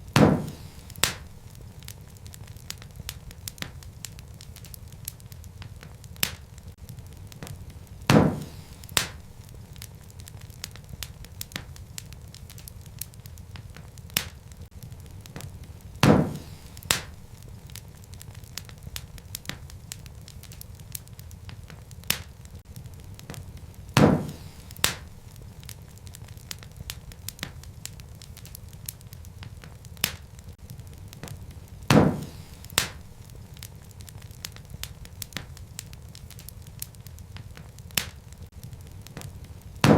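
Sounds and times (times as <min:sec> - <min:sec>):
fire crackling: 0:00.0 - 0:39.9
fire flames rumbling: 0:00.0 - 0:39.9
sharp pops from fire: 0:00.0 - 0:39.9.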